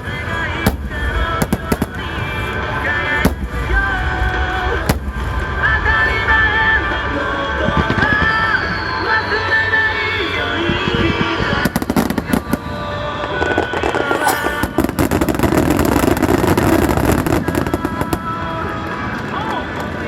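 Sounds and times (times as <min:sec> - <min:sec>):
fireworks cracking and banging: 0:00.0 - 0:09.7, 0:10.4 - 0:20.0
music playing: 0:00.0 - 0:20.0.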